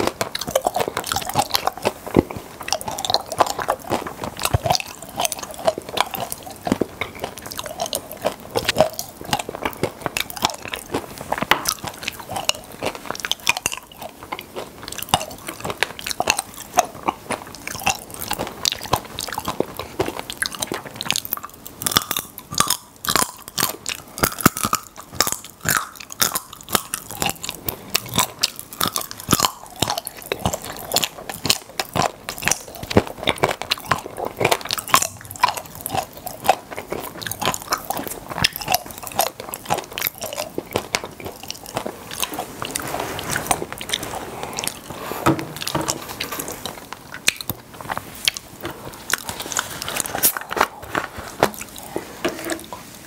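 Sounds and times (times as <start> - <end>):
popping candy crackling: 0.0 - 44.1
wet chewing with crunches: 0.0 - 53.0.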